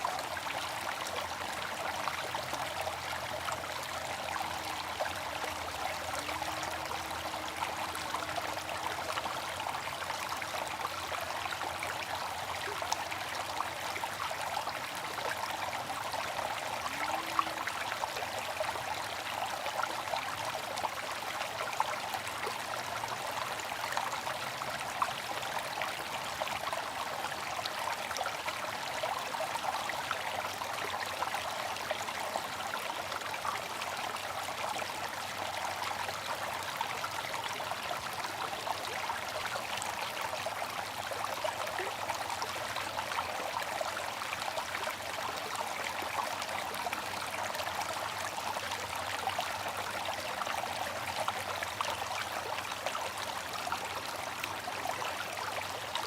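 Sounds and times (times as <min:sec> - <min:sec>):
water fountain trickling: 0:00.0 - 0:56.0.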